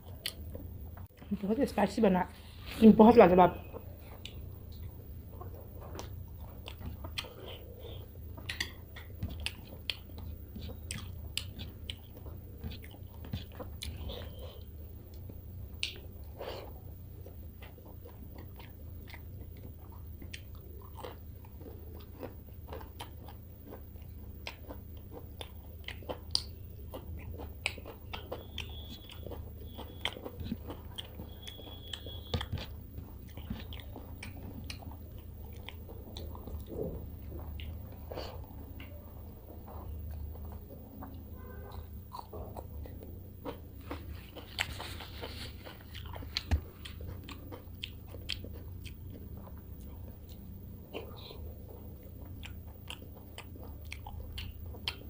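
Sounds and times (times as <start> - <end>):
wet chewing and lip smacking: 0.0 - 1.2, 3.6 - 55.0.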